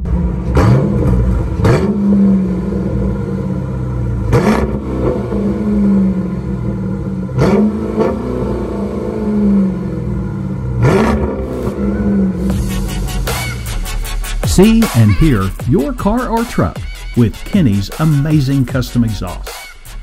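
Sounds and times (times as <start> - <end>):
engine idle rumble: 0.0 - 18.0
engine revving: 0.0 - 19.8.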